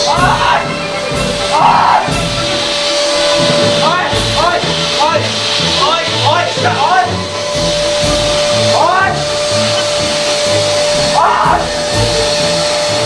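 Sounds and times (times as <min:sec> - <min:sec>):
background music with steady beat: 0:00.0 - 0:13.0
electric air pump whirring: 0:00.0 - 0:13.0.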